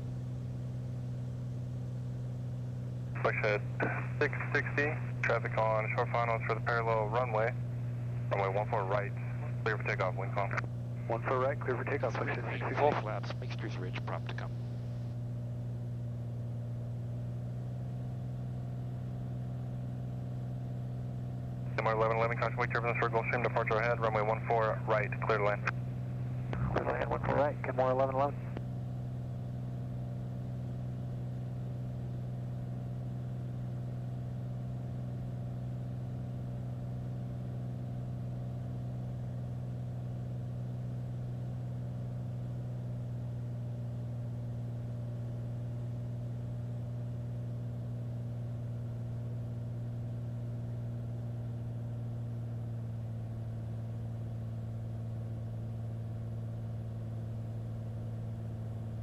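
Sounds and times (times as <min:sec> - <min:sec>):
propeller aircraft engine droning: 0:00.0 - 0:59.0.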